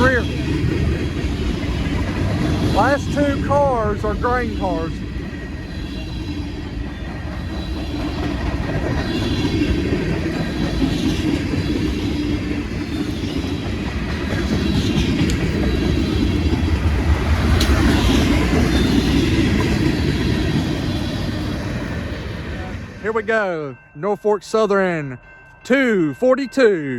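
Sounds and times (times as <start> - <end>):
freight train wheels rumbling and clacking: 0.0 - 26.3.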